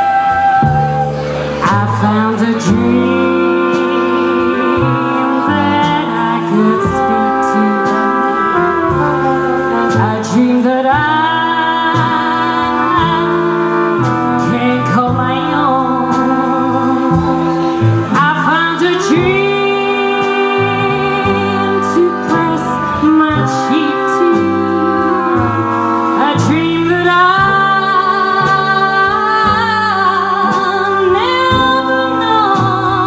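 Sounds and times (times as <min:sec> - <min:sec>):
swing jazz band playing: 0:00.0 - 0:33.0
woman singing: 0:00.0 - 0:33.0.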